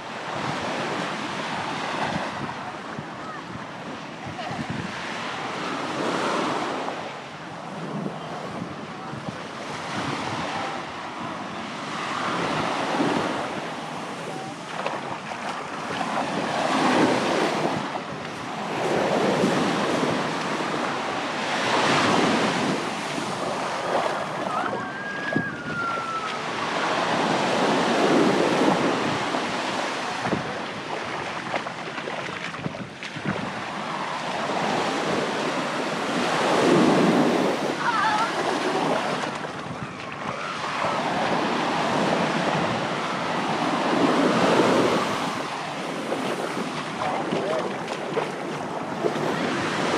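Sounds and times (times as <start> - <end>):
sea waves breaking on shore: 0.0 - 49.9
wind buffeting microphone: 0.0 - 49.9.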